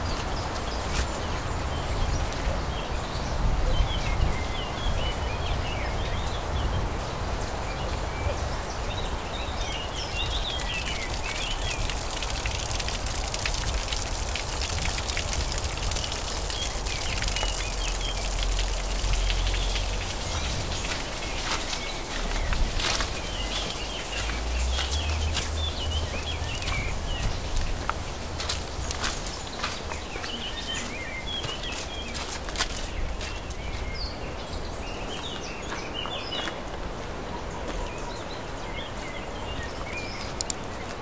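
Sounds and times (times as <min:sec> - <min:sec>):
small birds chirping: 0:00.0 - 0:36.6
steady outdoor hiss: 0:00.0 - 0:41.0
water dripping and trickling: 0:00.0 - 0:41.0.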